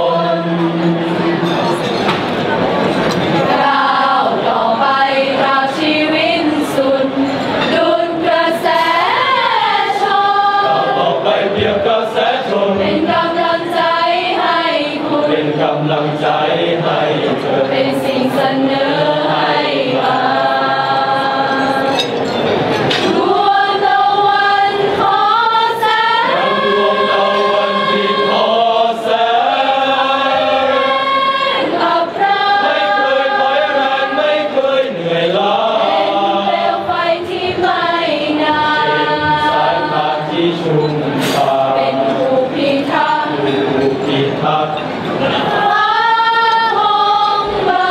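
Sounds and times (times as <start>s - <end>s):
choir singing in harmony: 0.0s - 47.9s.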